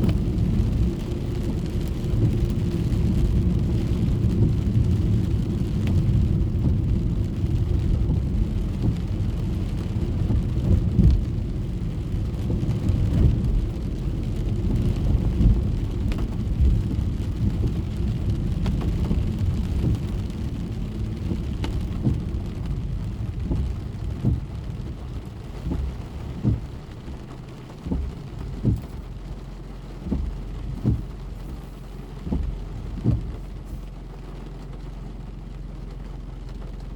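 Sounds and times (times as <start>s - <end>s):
rain pattering on car roof: 0.0s - 36.9s
road and engine rumble: 0.0s - 36.9s.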